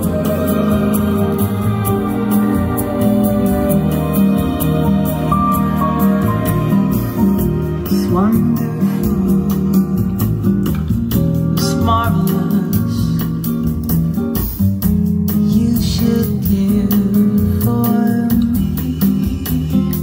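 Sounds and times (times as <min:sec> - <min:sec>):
music over loudspeakers: 0:00.0 - 0:20.0.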